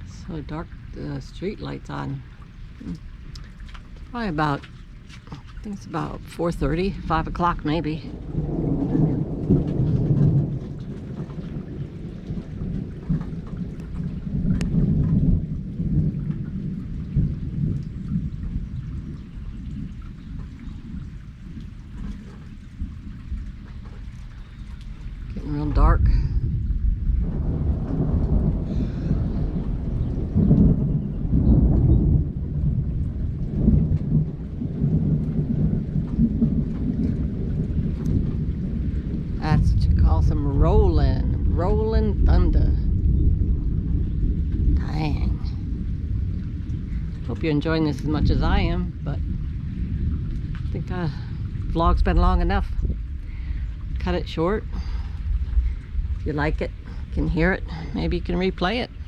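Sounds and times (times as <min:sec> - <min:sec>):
raindrops ticking: 0:00.0 - 0:59.0
steady rain: 0:00.0 - 0:59.0
thunder rumbling: 0:00.0 - 0:59.0.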